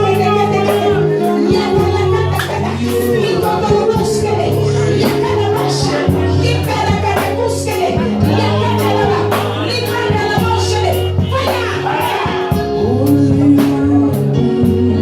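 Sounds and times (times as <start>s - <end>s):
worship music with singing: 0.0s - 15.0s.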